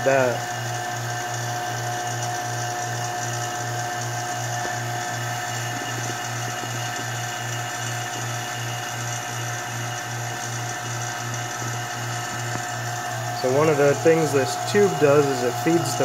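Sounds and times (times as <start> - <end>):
vacuum pump running: 0.0 - 16.0.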